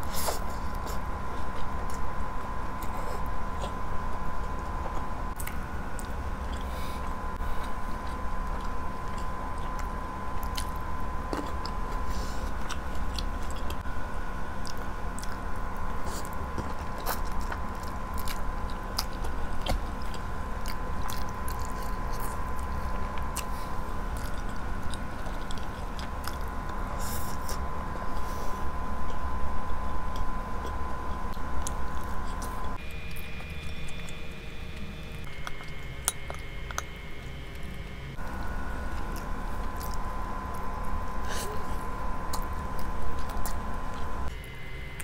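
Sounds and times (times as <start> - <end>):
person chewing chicken: 0.0 - 13.9, 14.5 - 45.0
faint hum: 0.0 - 45.0.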